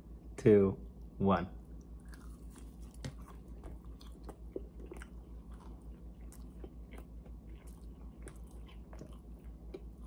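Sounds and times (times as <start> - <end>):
steady low hum: 0.0 - 10.0
people chewing food: 1.0 - 10.0.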